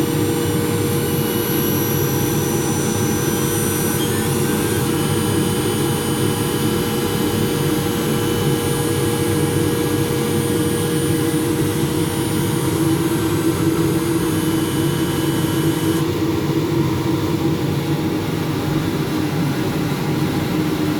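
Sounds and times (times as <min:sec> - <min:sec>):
machine humming and whining: 0:00.0 - 0:20.9.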